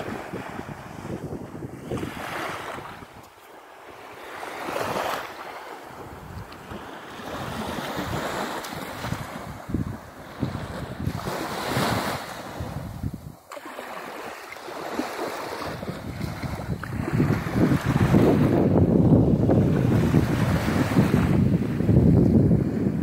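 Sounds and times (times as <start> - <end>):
wind buffeting microphone: 0.0 - 3.4, 4.2 - 13.5, 14.6 - 23.0
small waves washing onto sand: 0.0 - 23.0.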